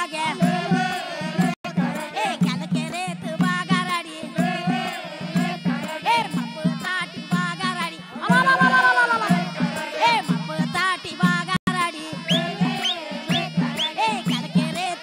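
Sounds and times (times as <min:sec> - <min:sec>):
folk singing: 0:00.0 - 0:15.0
steady drum beat: 0:00.0 - 0:15.0.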